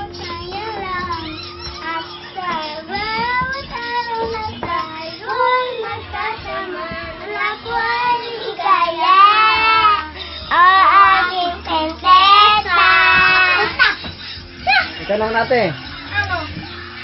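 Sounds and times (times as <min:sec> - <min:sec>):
child singing: 0:00.0 - 0:14.0.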